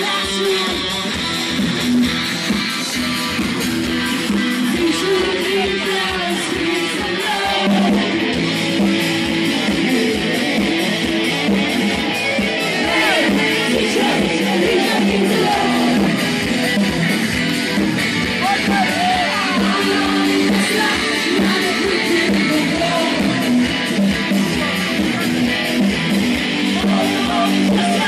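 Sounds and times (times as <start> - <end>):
band music over loudspeakers: 0.0 - 28.0.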